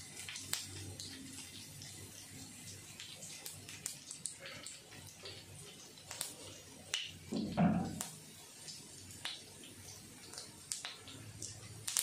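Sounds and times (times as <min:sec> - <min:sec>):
seeds spluttering in hot oil: 0:00.0 - 0:12.0.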